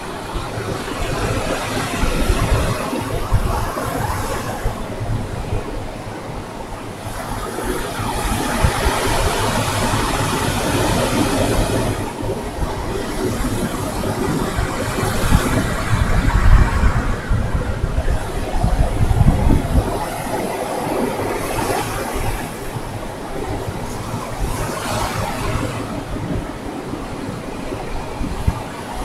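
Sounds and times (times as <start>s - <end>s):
waves breaking on beach: 0.0s - 29.0s
wind rumble on microphone: 0.0s - 29.0s.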